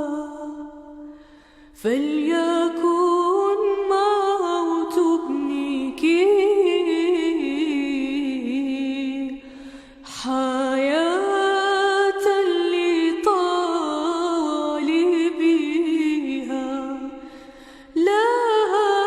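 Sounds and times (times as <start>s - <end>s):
woman singing a hymn: 0.0s - 1.1s, 1.8s - 9.4s, 10.1s - 19.0s.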